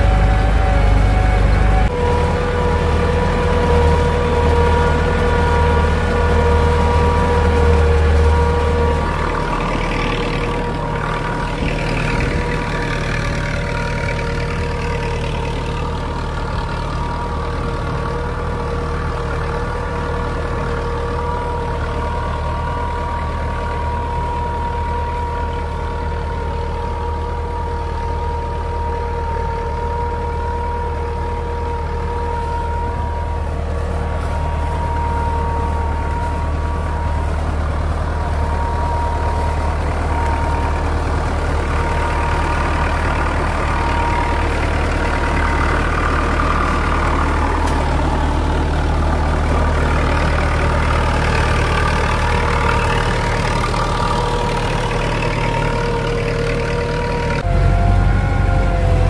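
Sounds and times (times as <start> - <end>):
steady whine: 0.0 - 59.0
tractor diesel engine under load: 0.0 - 59.0.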